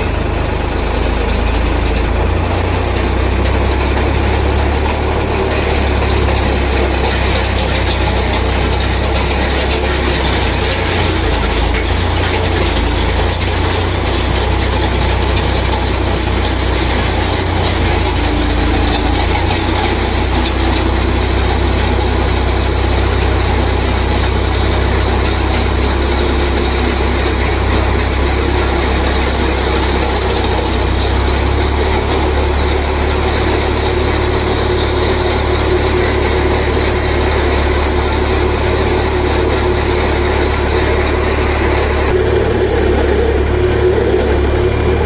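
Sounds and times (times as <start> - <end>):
auger boring into soil: 0.0 - 45.0
tractor diesel engine running: 0.0 - 45.0.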